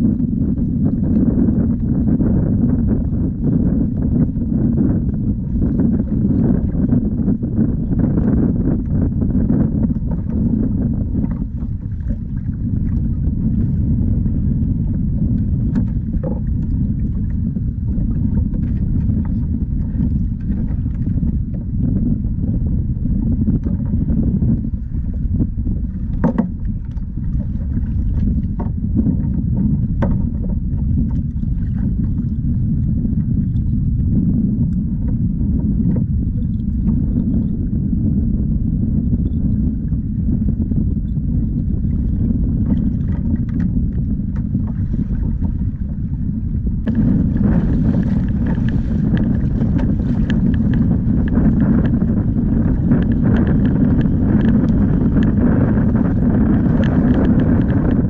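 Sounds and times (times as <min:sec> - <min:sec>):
water lapping on kayak hull: 0:00.0 - 0:58.0
wind buffeting microphone: 0:00.0 - 0:58.0.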